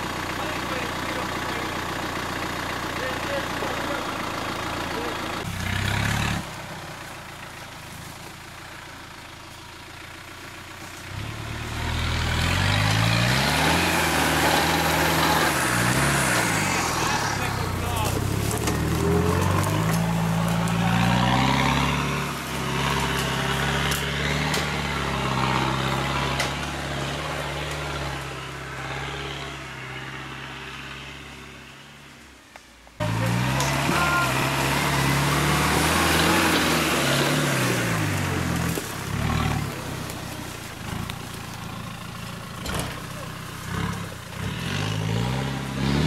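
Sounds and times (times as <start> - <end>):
off-road vehicle engine revving: 0.0 - 32.2, 33.0 - 46.0
vehicle engine driving off: 0.0 - 46.0.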